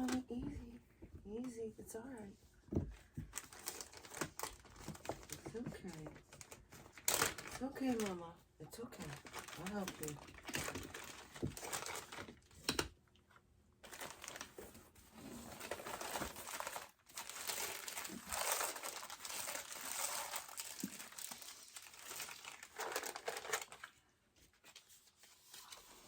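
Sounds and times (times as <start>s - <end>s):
bedding crinkling and rustling: 2.6s - 12.8s, 13.8s - 26.0s.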